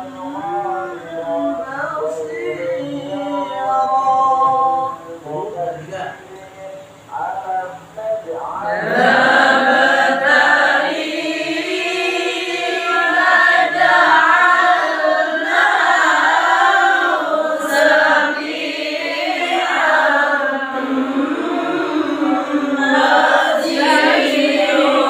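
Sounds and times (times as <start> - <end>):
young male voices reciting melodically: 0.0 - 25.0.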